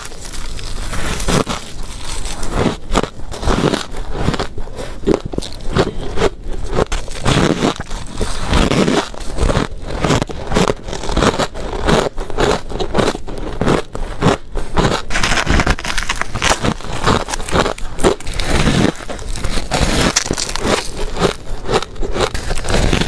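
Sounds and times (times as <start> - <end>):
person chewing crunchy ice: 0.0 - 23.0.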